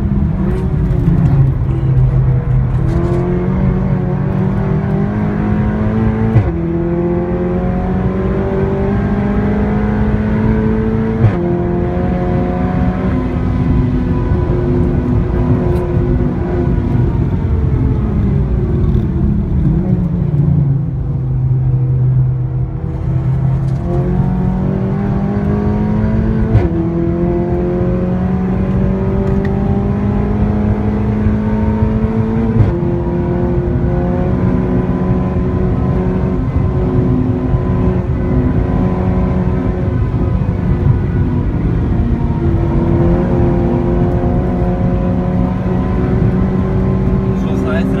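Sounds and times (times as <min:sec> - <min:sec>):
car engine and loud exhaust: 0:00.0 - 0:48.0
gear changes: 0:00.1 - 0:48.0.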